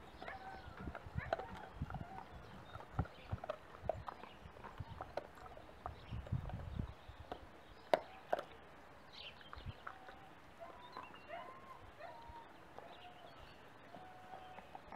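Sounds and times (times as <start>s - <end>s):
dogs gnawing bones: 0.0s - 11.5s, 13.8s - 14.9s.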